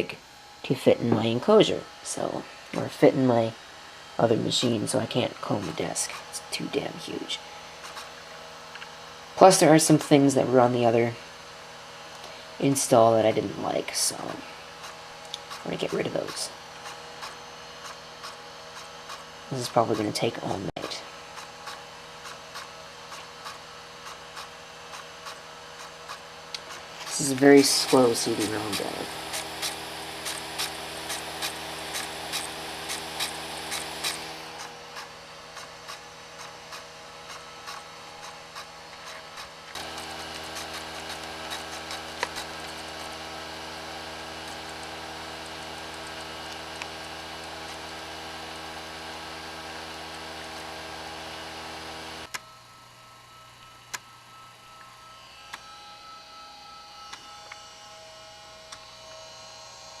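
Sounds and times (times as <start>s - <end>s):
cd drive spinning whirr: 0.0s - 60.0s.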